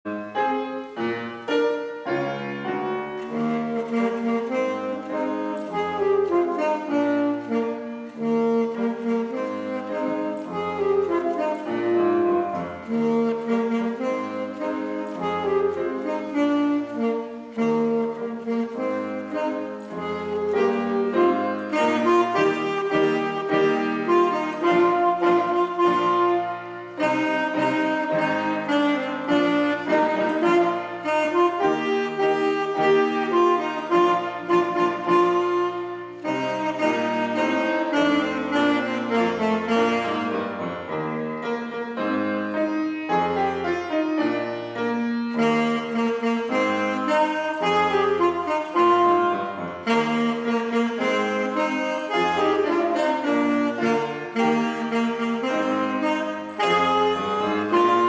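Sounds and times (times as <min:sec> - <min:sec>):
piano accompaniment: 0:00.0 - 0:58.0
saxophone melody: 0:00.1 - 0:58.0.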